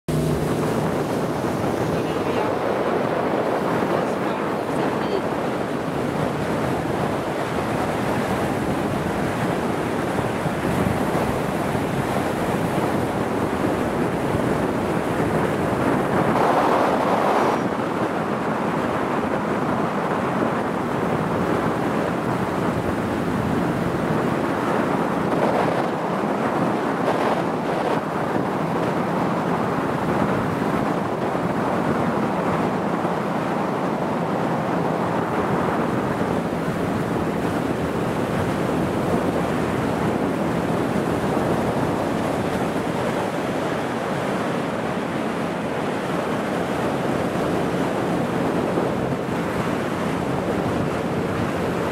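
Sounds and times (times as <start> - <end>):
boat engine droning: 0.0 - 51.9
water streaming past boat: 0.0 - 51.9
wind on microphone: 0.1 - 51.9.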